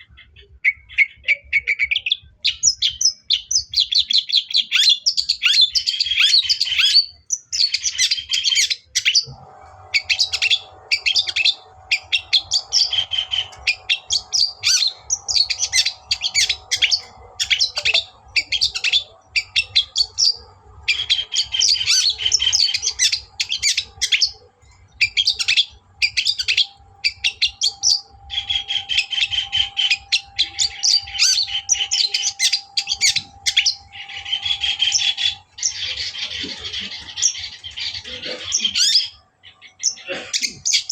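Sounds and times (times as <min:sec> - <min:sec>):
bird chattering song: 0:00.0 - 0:40.9
faint steady hum: 0:05.0 - 0:40.9.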